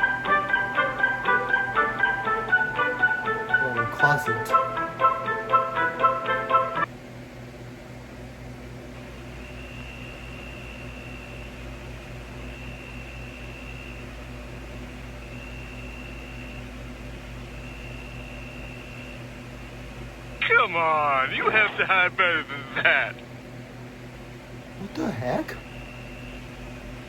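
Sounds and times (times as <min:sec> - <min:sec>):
low hum and hiss: 0:00.0 - 0:27.0.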